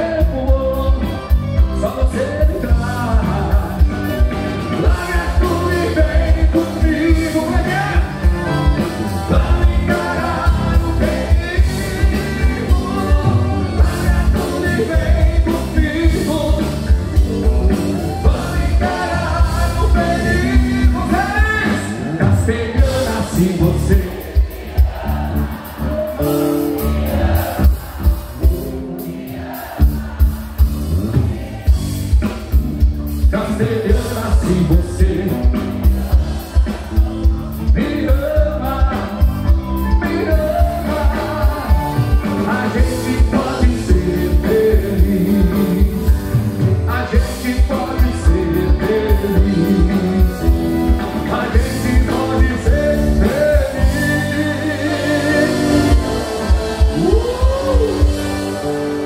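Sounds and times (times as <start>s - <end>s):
person singing: 0.0s - 24.6s, 33.3s - 59.0s
steady drum beat: 0.0s - 58.7s
live band playing: 0.0s - 59.0s.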